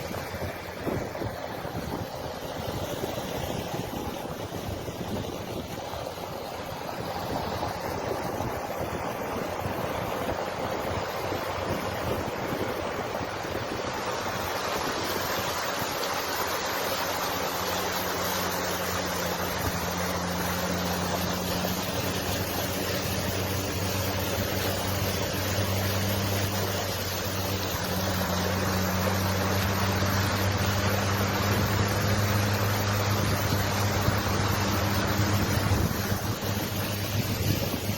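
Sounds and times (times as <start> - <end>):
floodwater rushing: 0.0 - 37.9
vehicle engine humming: 0.0 - 37.9.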